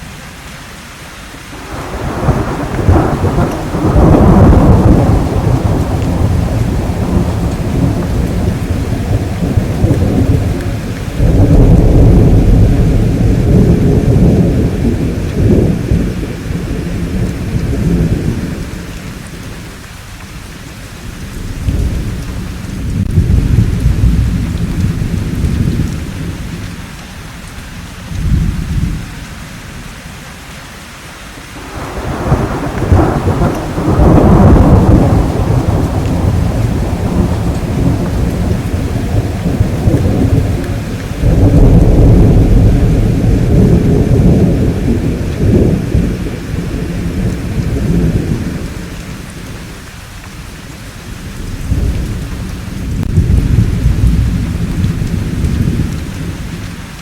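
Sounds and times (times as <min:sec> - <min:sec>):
steady rain: 0:00.0 - 0:57.0
rolling thunder: 0:01.6 - 0:19.7, 0:21.0 - 0:26.8, 0:28.0 - 0:29.1, 0:31.6 - 0:49.9, 0:51.0 - 0:56.9.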